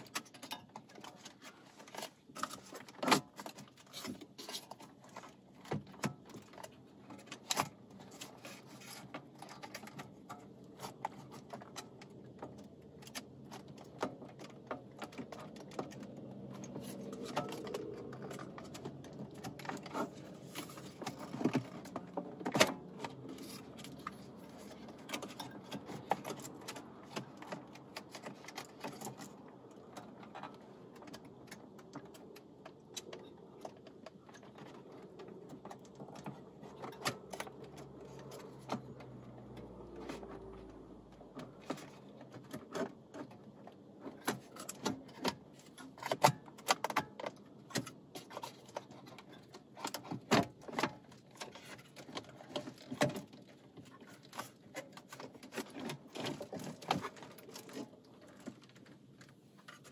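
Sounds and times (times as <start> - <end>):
plastic clicks and rattles: 0.0 - 59.9.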